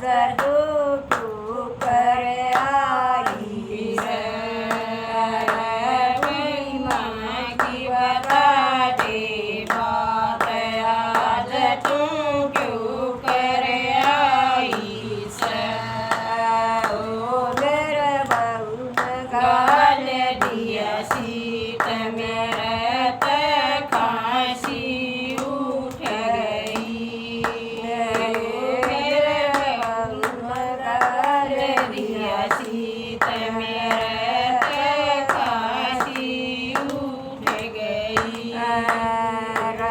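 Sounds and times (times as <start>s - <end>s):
rhythmic hand clapping: 0.0s - 39.9s
woman singing devotional song: 0.0s - 39.9s.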